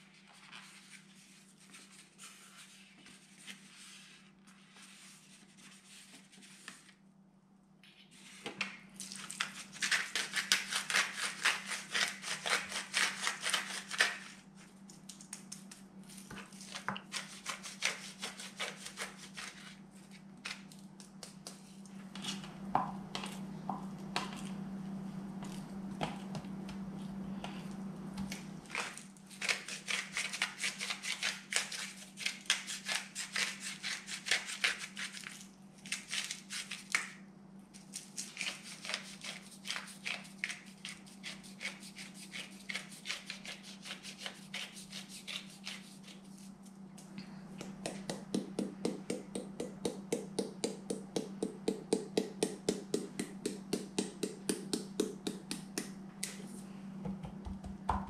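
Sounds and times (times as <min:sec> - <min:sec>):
low steady hum: 0:00.0 - 0:34.2, 0:34.8 - 0:58.0.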